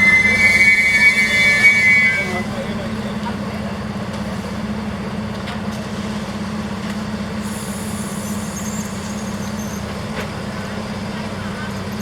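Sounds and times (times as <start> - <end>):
railcar diesel engine hum: 0.0 - 12.0.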